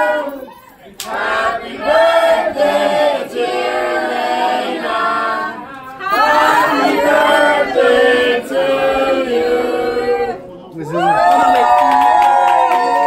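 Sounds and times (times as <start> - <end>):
group singing birthday song: 0.0 - 10.8.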